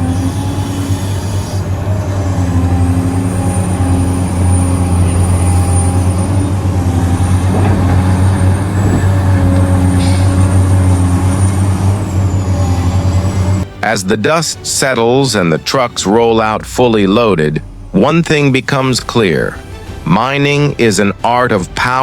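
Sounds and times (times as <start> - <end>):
heavy diesel engines droning: 0.0 - 22.0.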